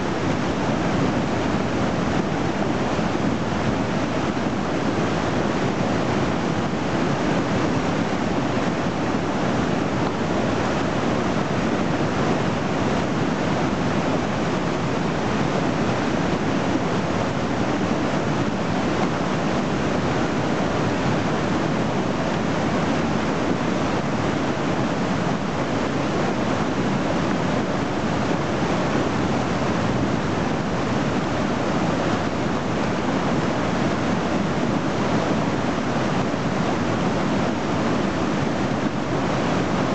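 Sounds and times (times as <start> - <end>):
river water rushing through rapids: 0.0 - 39.9.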